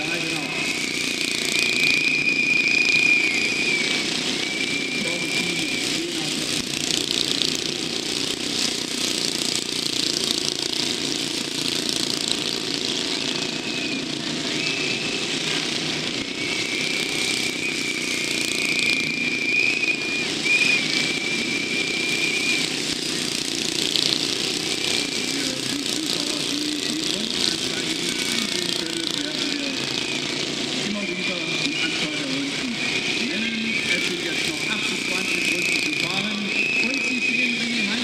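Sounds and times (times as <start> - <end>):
high steady whine: 0.0 - 38.0
motorcycle engines humming: 0.0 - 38.0.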